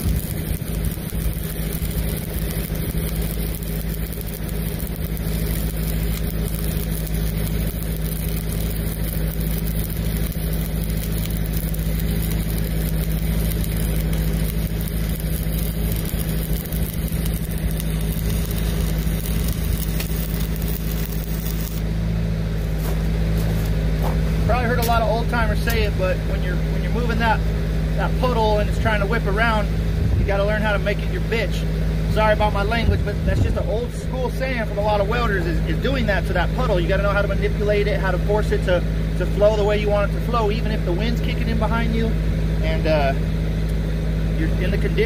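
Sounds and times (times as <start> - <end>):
diesel welder engine running: 0.0 - 45.0
welding arc sizzle: 0.0 - 45.0.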